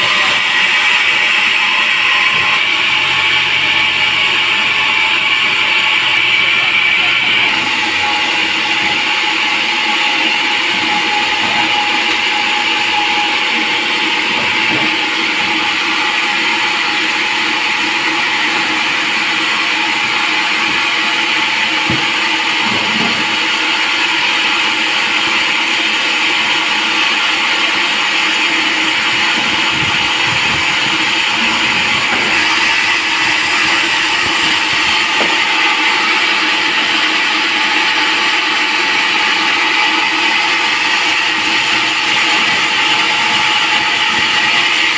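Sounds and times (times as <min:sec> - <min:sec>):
sawmill saw cutting log: 0:00.0 - 0:44.9.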